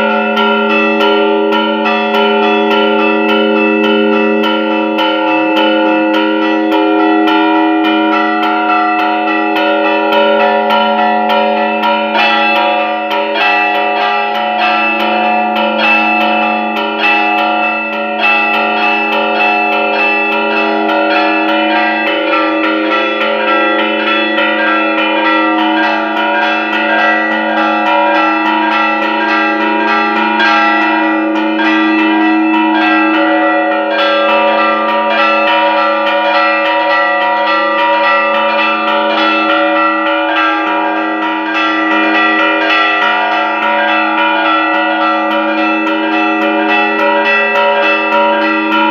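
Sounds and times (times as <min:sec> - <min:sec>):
church bells ringing rapidly: 0:00.0 - 0:48.9.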